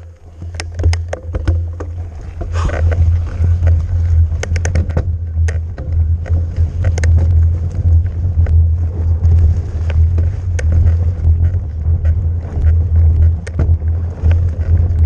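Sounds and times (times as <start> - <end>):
bike clacks and rattles: 0.0 - 15.0
mountain bike rumbling on rough trail: 0.0 - 15.0.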